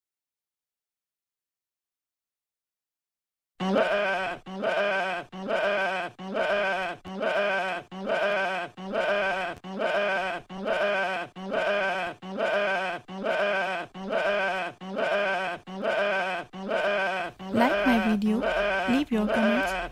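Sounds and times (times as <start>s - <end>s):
sheep bleating: 3.6s - 19.9s.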